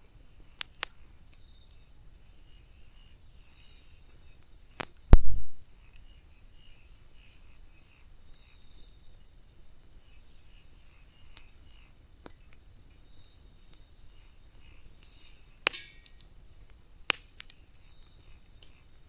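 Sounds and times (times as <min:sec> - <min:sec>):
campfire crackling and popping: 0:00.0 - 0:19.0
faint steady hiss: 0:00.0 - 0:19.0.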